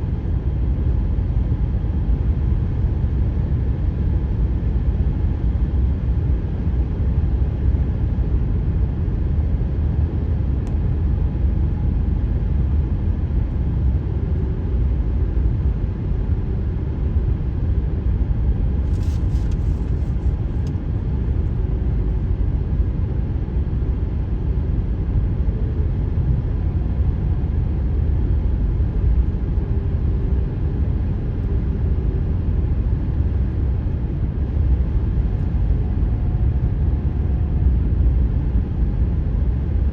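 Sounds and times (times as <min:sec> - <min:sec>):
faint humming tone from tyres: 0:00.0 - 0:39.9.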